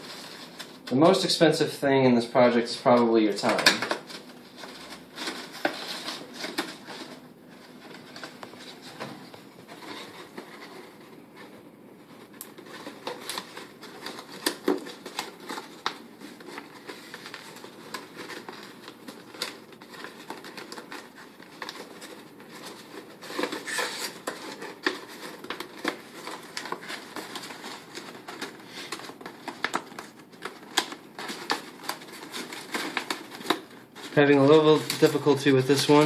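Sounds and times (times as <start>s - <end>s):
cardstock rustling and crinkling: 0.0s - 1.8s, 2.4s - 36.0s.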